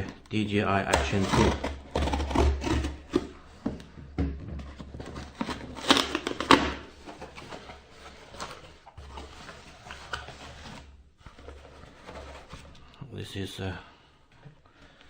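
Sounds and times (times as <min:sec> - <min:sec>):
packaging rustling: 0:00.0 - 0:03.9, 0:04.7 - 0:12.9.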